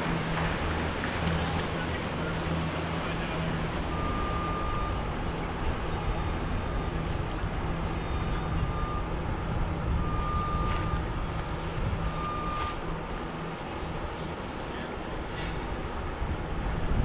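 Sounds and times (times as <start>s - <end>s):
wind buffeting microphone: 0.0s - 12.6s, 15.6s - 17.0s
motorboat engines running: 0.0s - 17.0s
wash of waves: 0.0s - 17.0s.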